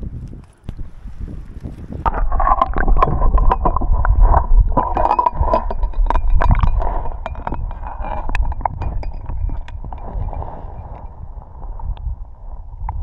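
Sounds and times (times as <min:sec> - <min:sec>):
underwater rumble and gurgle: 0:00.0 - 0:13.0.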